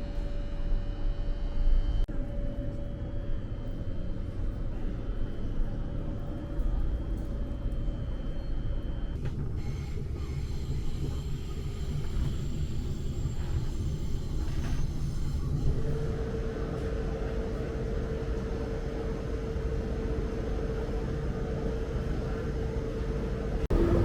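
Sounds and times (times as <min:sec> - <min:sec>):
train rumbling: 0:02.1 - 0:24.0.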